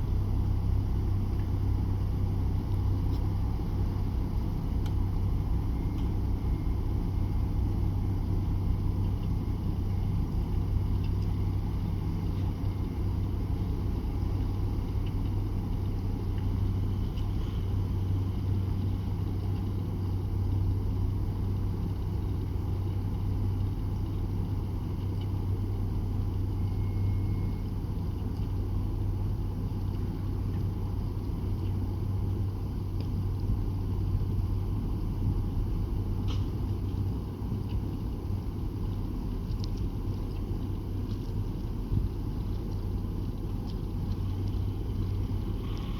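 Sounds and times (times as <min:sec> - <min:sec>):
boat diesel engine humming: 0:00.0 - 0:45.9.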